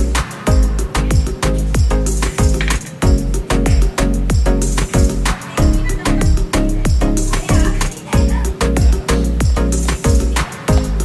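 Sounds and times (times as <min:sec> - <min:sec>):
bass line: 0:00.0 - 0:11.0
deep kick drums: 0:00.0 - 0:11.0.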